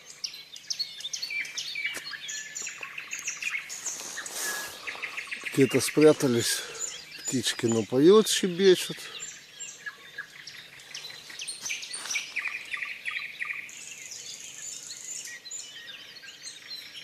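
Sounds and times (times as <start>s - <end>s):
songbirds singing and chirping: 0.0s - 17.0s.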